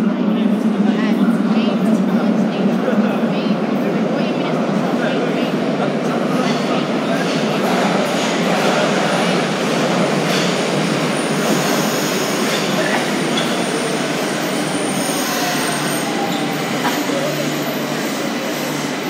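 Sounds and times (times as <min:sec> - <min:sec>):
subway train wheels rushing: 0:00.0 - 0:19.0.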